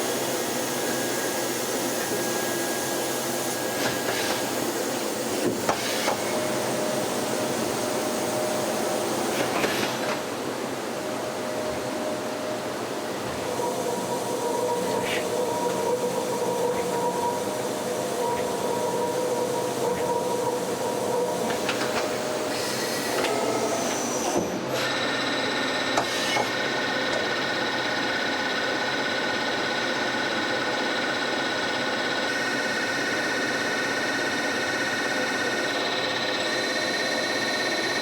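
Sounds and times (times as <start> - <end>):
machine whine: 0.0 - 38.0.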